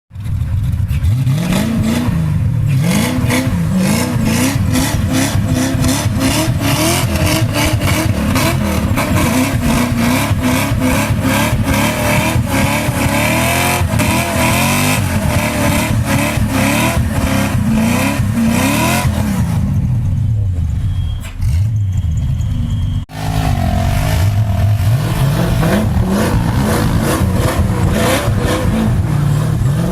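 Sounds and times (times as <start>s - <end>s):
car engine revving: 0.1s - 20.6s, 21.4s - 29.9s.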